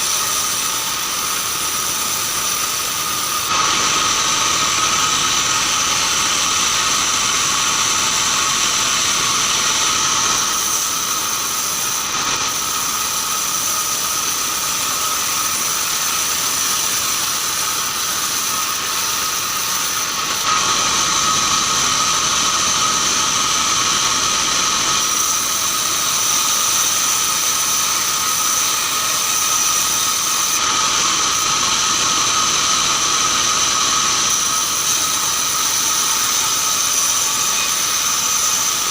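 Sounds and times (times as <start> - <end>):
band saw whining through wood: 0.0 - 38.9.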